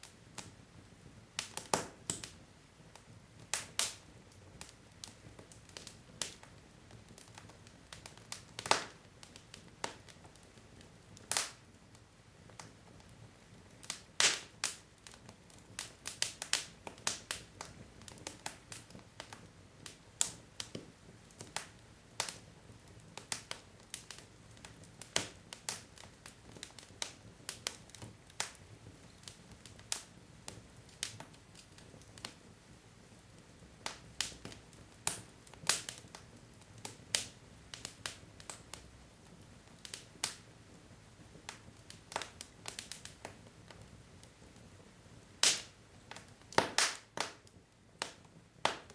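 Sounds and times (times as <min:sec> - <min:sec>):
soft hiss of flame: 0:00.0 - 0:48.9
wood fire crackling: 0:00.0 - 0:48.9.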